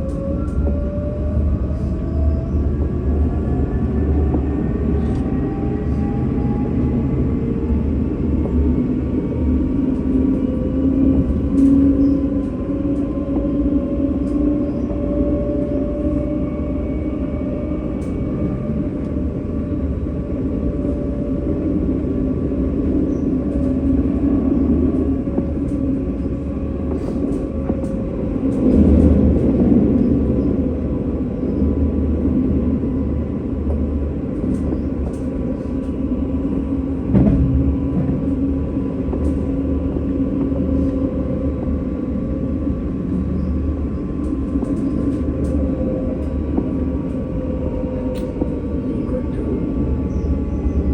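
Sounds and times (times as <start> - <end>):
tram rumbling on rails: 0.0 - 50.9.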